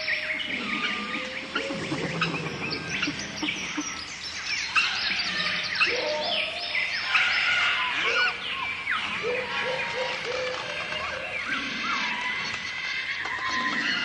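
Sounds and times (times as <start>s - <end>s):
bird chorus with whistles: 0.0s - 14.0s.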